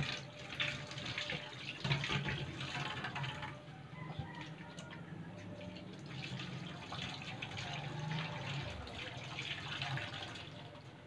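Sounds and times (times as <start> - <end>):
broth boiling in a pot: 0.0 - 11.0.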